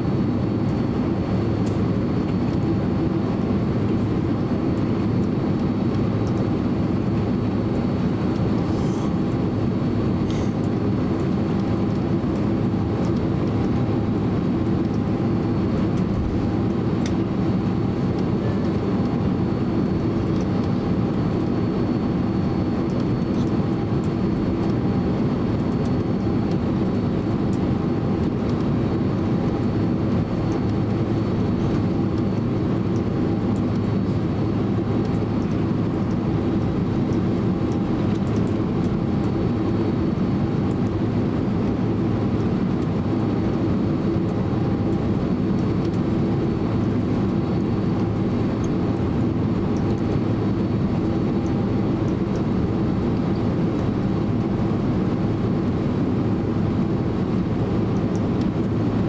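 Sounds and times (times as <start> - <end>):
aircraft cabin engine rumble: 0.0 - 59.0
faint high engine whine: 0.0 - 59.0.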